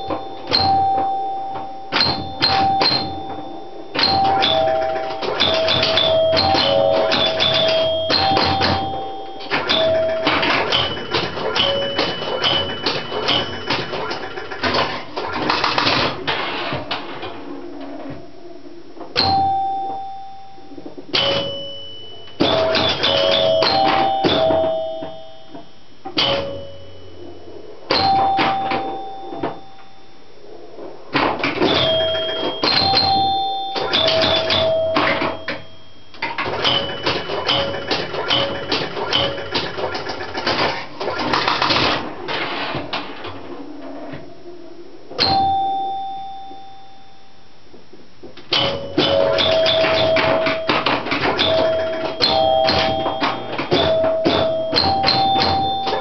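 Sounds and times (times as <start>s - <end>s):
pinball scoring chimes: 0.0s - 17.9s, 19.0s - 30.2s, 31.1s - 43.6s, 45.1s - 47.4s, 48.4s - 56.0s.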